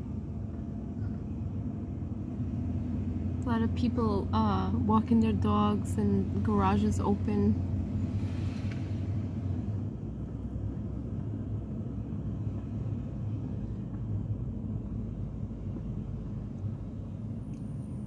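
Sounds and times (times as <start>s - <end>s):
car driving from inside cabin: 0.0s - 18.0s.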